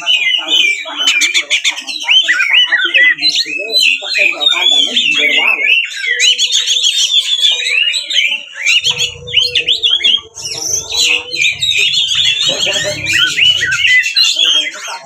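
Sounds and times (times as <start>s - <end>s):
bird singing whistles and trills: 0.0s - 15.0s.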